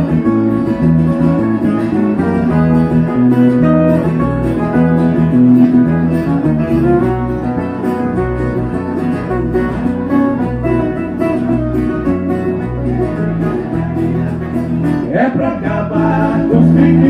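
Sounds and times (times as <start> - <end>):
acoustic guitars playing: 0.0 - 17.0
low bass notes: 0.0 - 17.0.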